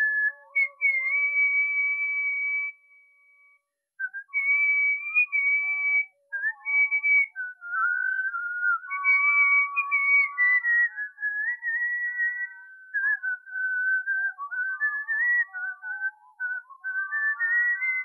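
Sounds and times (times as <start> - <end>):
person whistling a melody: 0.0 - 18.0.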